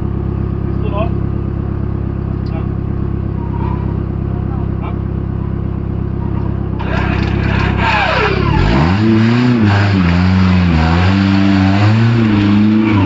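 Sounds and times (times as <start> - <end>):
off-road engine revving: 2.3 - 13.0.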